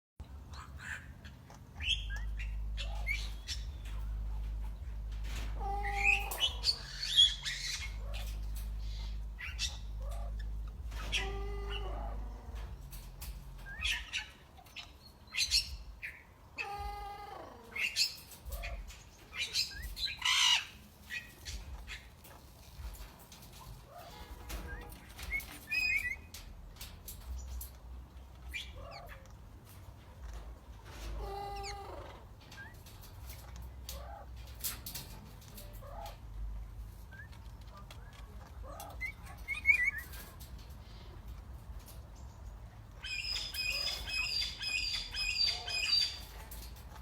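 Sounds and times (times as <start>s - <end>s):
steady low hum: 0.2s - 47.0s
parrots squawking and chirping: 0.4s - 41.6s, 42.9s - 47.0s.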